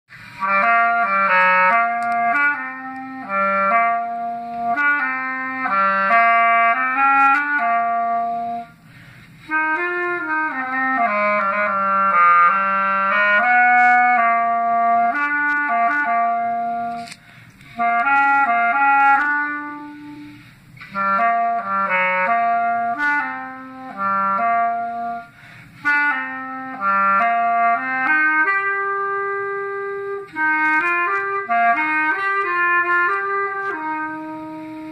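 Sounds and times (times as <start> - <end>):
solo clarinet melody: 0.1 - 34.9.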